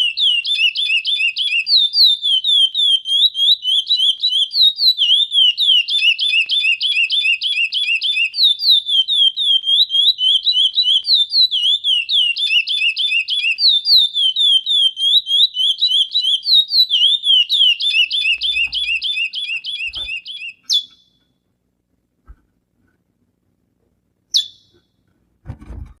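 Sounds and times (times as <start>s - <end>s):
bird singing whistled notes: 0.0s - 21.1s, 24.3s - 24.8s.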